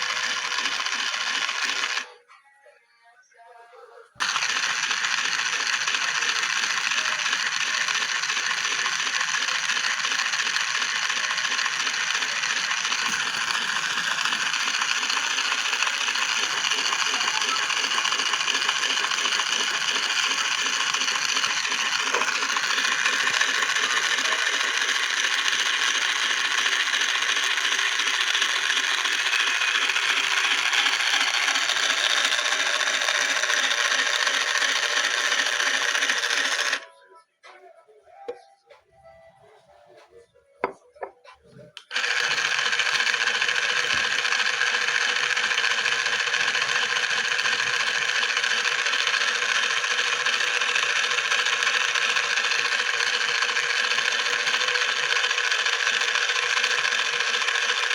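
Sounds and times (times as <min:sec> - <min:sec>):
washing machine running: 0:00.0 - 0:02.2, 0:04.2 - 0:36.9, 0:41.8 - 0:57.9.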